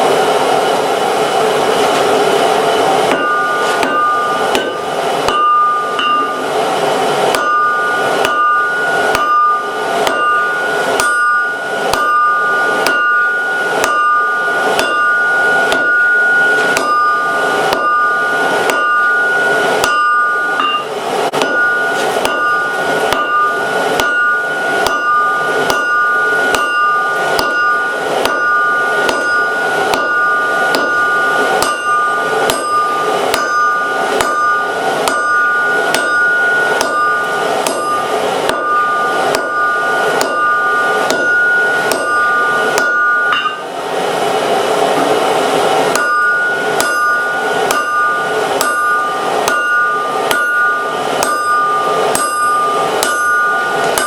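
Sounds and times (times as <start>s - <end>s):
hammer striking steel on anvil: 1.8s - 54.0s.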